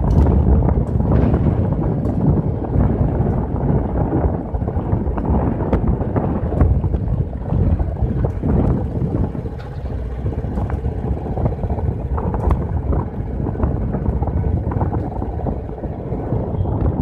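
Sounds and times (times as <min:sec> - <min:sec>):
motorcycle running: 0:00.0 - 0:17.0
wind rumbling on microphone: 0:00.0 - 0:17.0.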